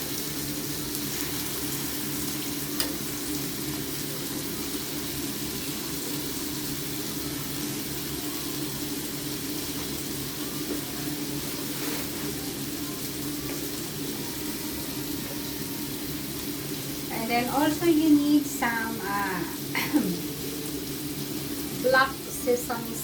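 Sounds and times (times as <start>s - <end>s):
chicken sizzling in a frying pan: 0.0s - 23.0s.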